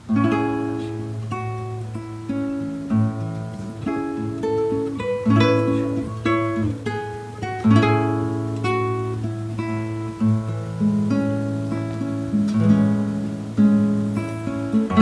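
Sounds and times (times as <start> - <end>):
classical guitar fingerstyle: 0.0 - 15.0.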